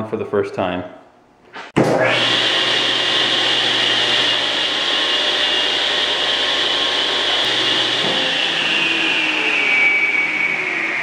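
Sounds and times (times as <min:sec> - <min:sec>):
table saw running with high whine: 0:01.8 - 0:11.0.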